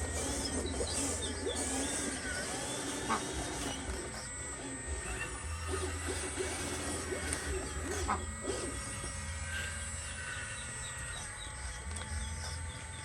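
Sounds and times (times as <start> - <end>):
birds chirping: 0.0 - 4.4, 5.0 - 13.0
steady low hum: 0.0 - 13.0.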